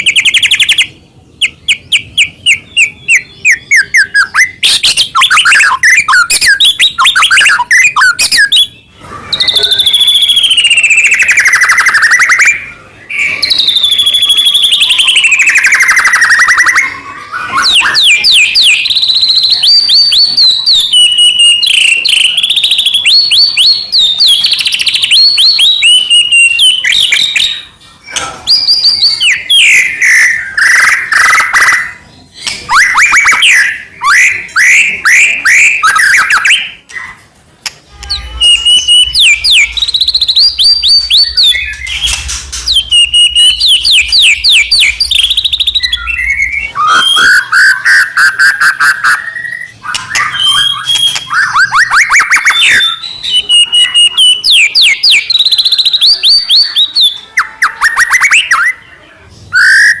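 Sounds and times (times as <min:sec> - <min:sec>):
songbird whistling and trilling: 0:00.0 - 0:27.8, 0:28.4 - 0:37.2, 0:38.0 - 0:58.8, 0:59.5 - 1:00.0.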